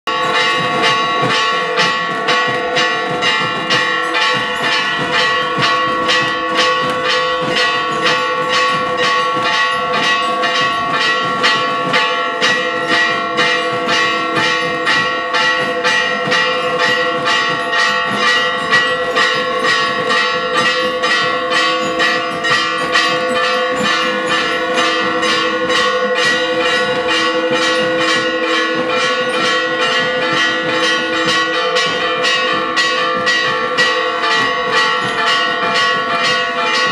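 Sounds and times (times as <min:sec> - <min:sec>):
church bells pealing: 0:00.1 - 0:36.9.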